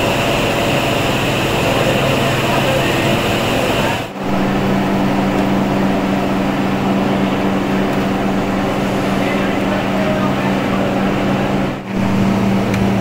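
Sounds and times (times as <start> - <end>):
factory machinery humming: 0.0 - 13.0.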